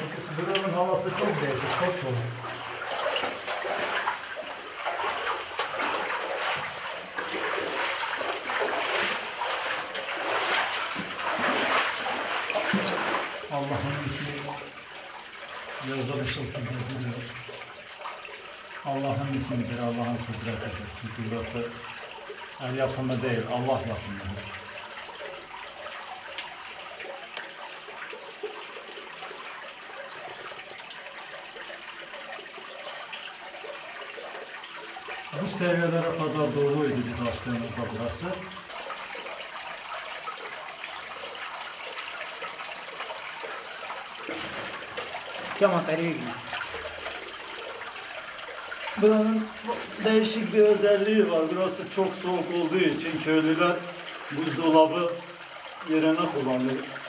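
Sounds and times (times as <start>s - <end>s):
steady water rush: 0.0s - 57.0s
water splashing in a cave: 0.0s - 57.0s.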